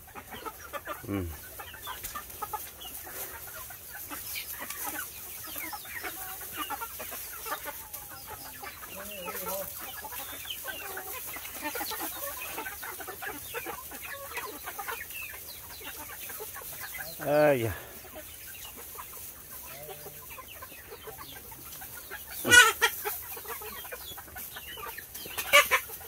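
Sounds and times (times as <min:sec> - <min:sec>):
young chickens clucking and chirping: 0:00.0 - 0:26.0.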